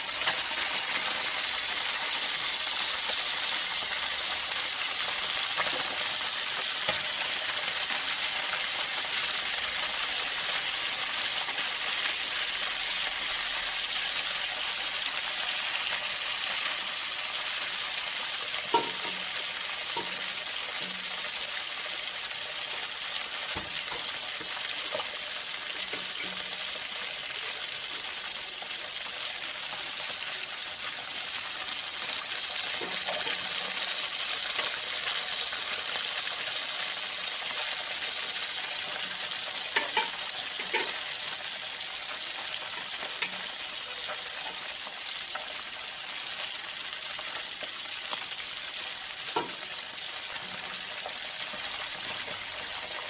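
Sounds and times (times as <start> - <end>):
fish sizzling in hot oil: 0.0 - 53.0.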